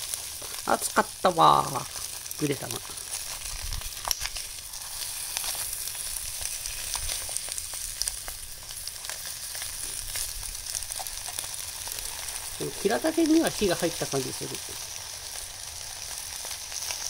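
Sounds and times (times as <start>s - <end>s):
small crackles: 0.0s - 17.0s
vegetables sizzling: 0.0s - 17.0s.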